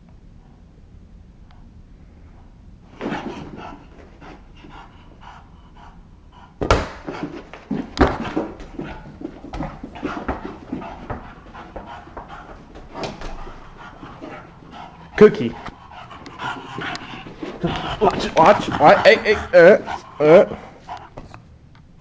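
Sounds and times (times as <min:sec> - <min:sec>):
dog panting hard: 0:03.0 - 0:21.4.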